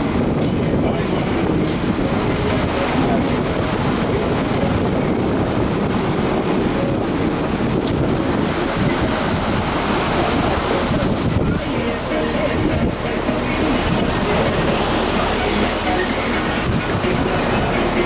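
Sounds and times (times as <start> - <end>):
steady low rumble: 0.0 - 18.0
waves breaking around pier pilings: 0.0 - 18.0
wind buffeting microphone: 0.0 - 18.0.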